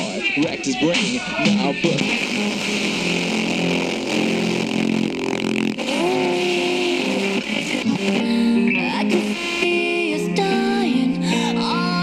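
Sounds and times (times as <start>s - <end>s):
music from portable radio: 0.0s - 12.0s.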